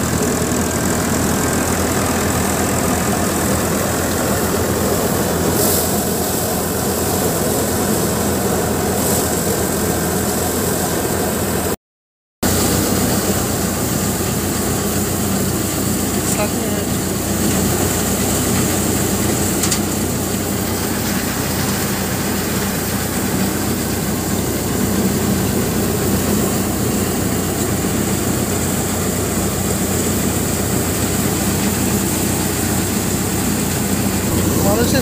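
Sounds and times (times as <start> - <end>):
thresher machine humming: 0.0 - 11.7, 12.4 - 35.0.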